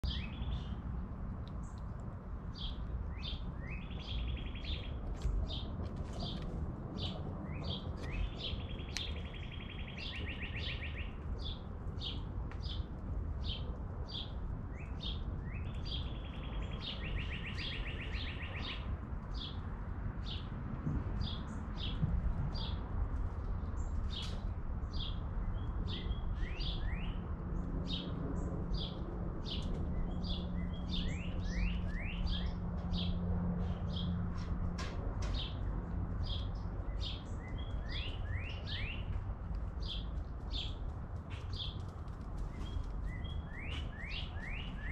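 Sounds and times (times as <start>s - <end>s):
songbird chirping and trilling: 0.0s - 0.8s, 2.5s - 19.6s, 23.8s - 34.2s, 34.8s - 41.9s, 42.5s - 44.9s.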